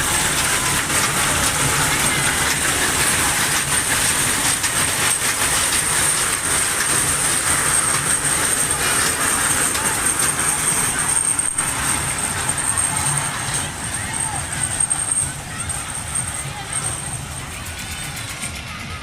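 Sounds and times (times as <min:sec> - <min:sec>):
ride train rattling rumble: 0:00.0 - 0:19.0
wheels clicking and clacking: 0:00.0 - 0:19.0.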